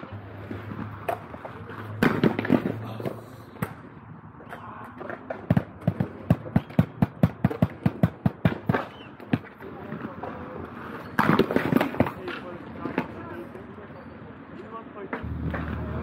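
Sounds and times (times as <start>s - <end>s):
skate wheels rolling on concrete: 0.0s - 16.0s.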